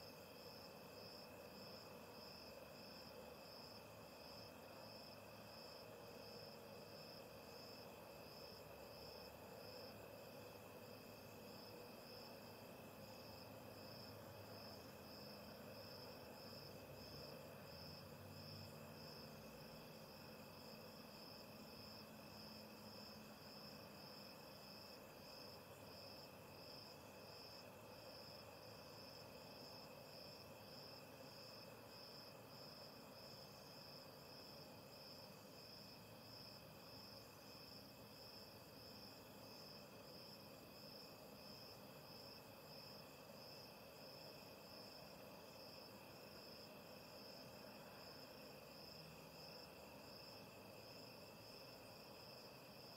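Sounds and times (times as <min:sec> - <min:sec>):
crickets chirping: 0:00.0 - 0:52.9
steady insect tone: 0:00.0 - 0:52.9.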